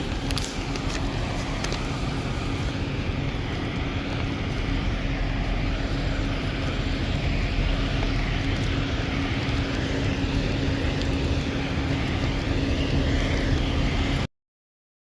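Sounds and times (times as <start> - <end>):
road noise: 0.0 - 14.3
vehicle engine rumble: 0.0 - 14.3.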